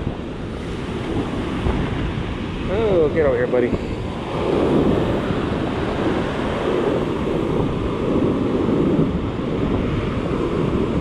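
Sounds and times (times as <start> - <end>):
ocean surf breaking on beach: 0.0 - 11.0
wind buffeting microphone: 0.0 - 11.0.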